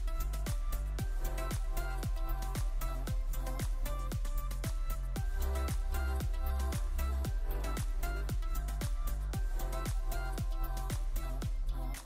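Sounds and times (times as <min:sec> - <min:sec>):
electronic beat music: 0:00.0 - 0:12.0.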